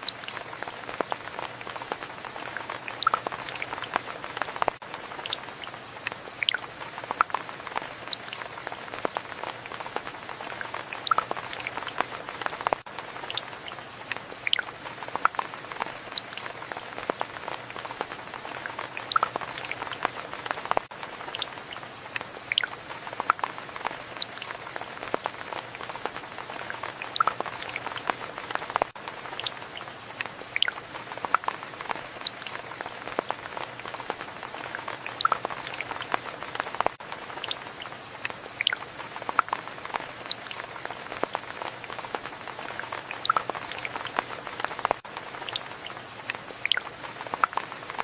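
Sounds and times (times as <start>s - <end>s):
rain drops tapping: 0.0s - 48.0s.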